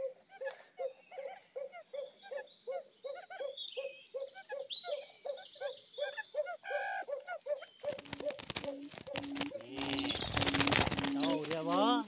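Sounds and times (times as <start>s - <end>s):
bird low hooting call: 0.0s - 12.0s
small birds chirping: 0.0s - 12.0s.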